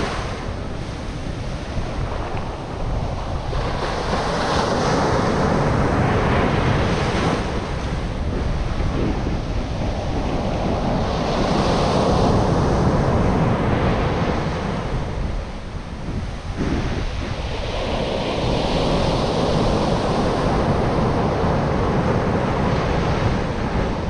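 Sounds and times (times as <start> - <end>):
ocean surf on beach: 0.0 - 24.0
wind buffeting microphone: 0.0 - 24.0.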